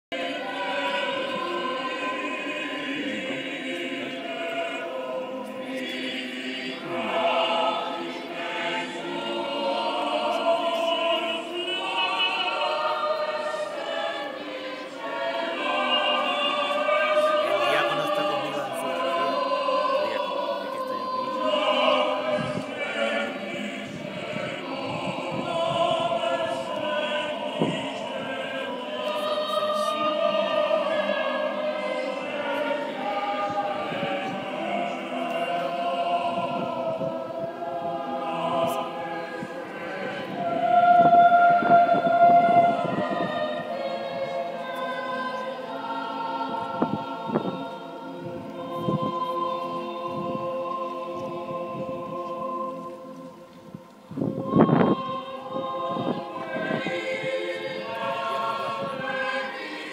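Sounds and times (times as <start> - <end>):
choir singing a chant in harmony: 0.1 - 59.9.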